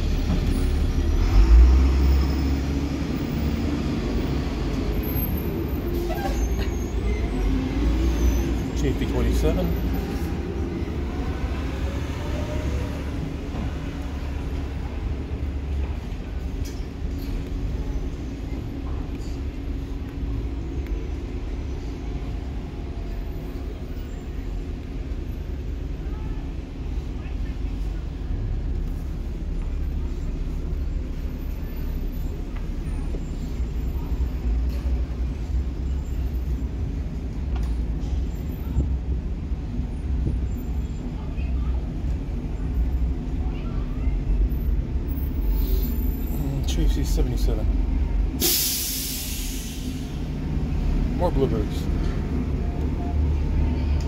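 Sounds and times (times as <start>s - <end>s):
cars rolling slowly past: 0.0s - 48.4s
bus engine low rumble: 0.0s - 54.0s.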